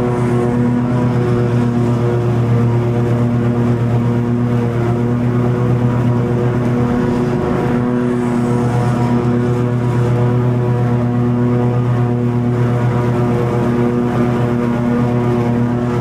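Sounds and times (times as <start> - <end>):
lawn mower cutting grass: 0.0 - 16.0.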